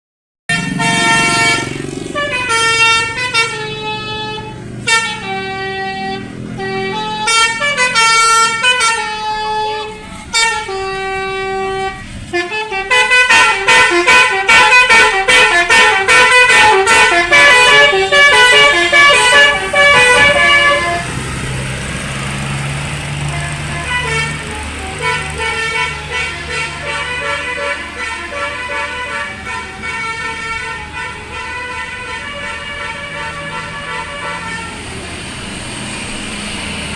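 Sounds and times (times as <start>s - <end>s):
air horns playing melodies: 0.5s - 21.4s, 23.1s - 34.9s
low engine hum: 0.6s - 36.9s.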